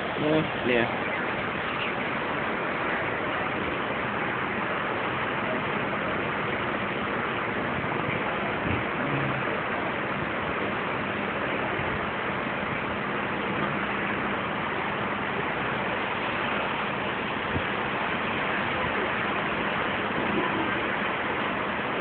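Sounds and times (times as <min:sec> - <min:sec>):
sea rushing along ship: 0:00.0 - 0:22.0.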